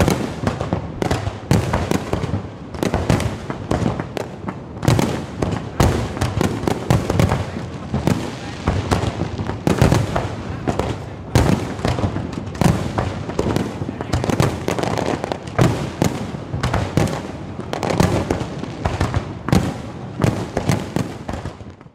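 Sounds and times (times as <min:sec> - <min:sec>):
fireworks crackling: 0:00.0 - 0:21.9
fireworks loud bangs: 0:00.0 - 0:21.9.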